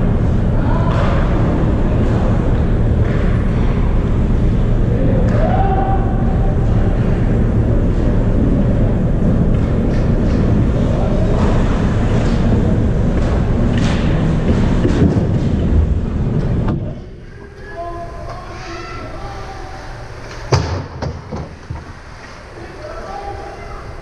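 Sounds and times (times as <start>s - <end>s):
ice hockey game rumble: 0.0s - 24.0s.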